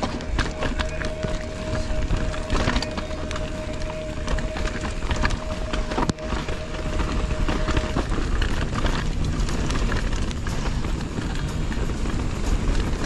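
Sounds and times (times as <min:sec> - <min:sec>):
bike clattering: 0:00.0 - 0:13.0
bike tyres rattling over rocks: 0:00.0 - 0:13.0
thin steady whine: 0:00.0 - 0:13.0
wind rumble on microphone: 0:00.0 - 0:13.0.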